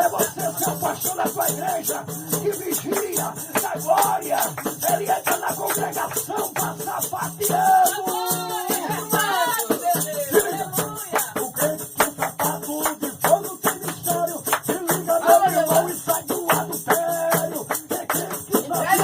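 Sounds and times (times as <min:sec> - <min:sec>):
people singing: 0:00.0 - 0:19.0
shaker and tambourine rhythm: 0:00.0 - 0:19.0.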